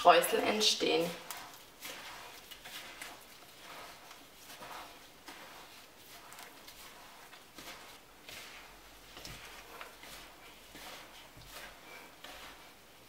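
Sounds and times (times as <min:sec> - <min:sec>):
soft squishing and rustling strokes: 0:00.0 - 0:13.0.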